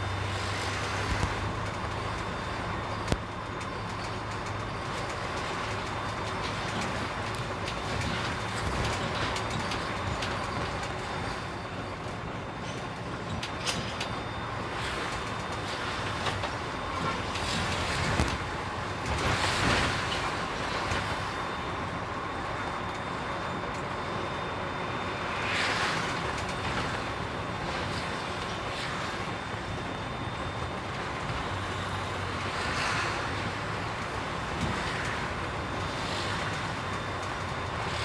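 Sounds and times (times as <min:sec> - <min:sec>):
truck engine and road rumble: 0:00.0 - 0:38.0.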